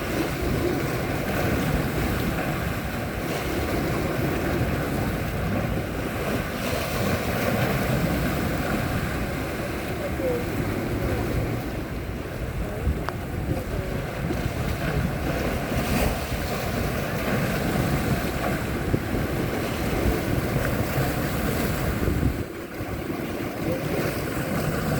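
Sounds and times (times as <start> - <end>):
sea waves: 0.0 - 24.9
wind buffeting microphone: 0.0 - 24.9.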